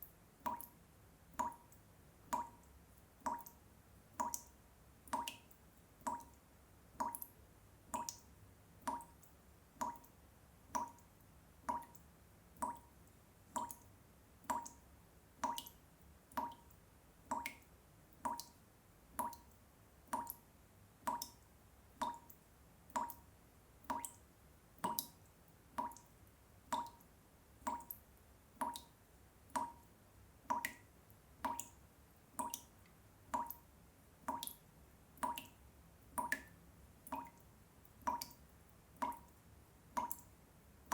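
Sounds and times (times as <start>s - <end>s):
water dripping from tap: 0.0s - 40.9s.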